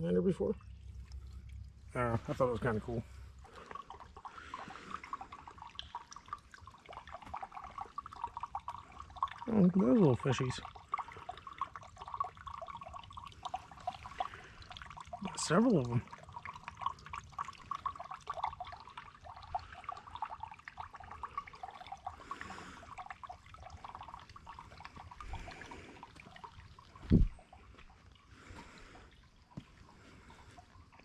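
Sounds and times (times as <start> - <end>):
creek water trickling over rocks: 0.0 - 31.0.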